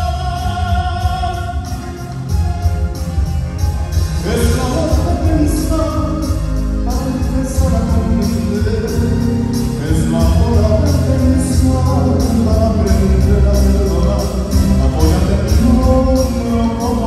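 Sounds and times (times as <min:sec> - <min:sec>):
man singing a ballad: 0:00.0 - 0:02.1, 0:03.9 - 0:17.0
heavy amplified bass: 0:00.0 - 0:17.0.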